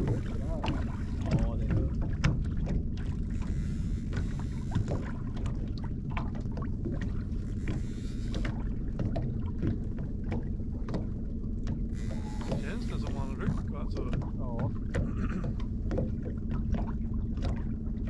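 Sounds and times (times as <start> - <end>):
outboard motor humming: 0.0 - 18.0.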